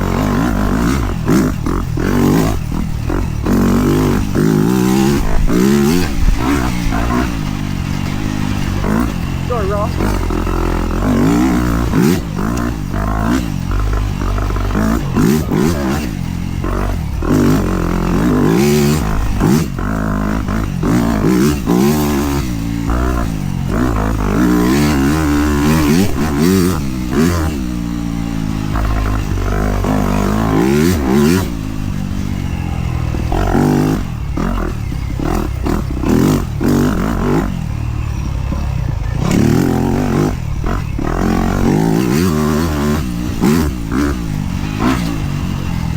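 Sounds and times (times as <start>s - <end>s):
bike knocks and rattles: 0.0s - 45.9s
dirt bike engine revving: 0.0s - 45.9s.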